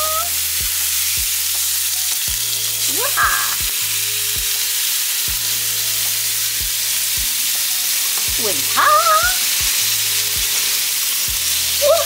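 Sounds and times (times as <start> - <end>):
burger patties sizzling in pan: 0.0 - 12.0.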